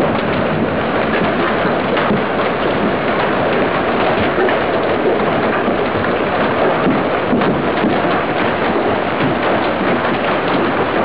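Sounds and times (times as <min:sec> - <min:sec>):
heavy hail pelting down: 0:00.0 - 0:11.0.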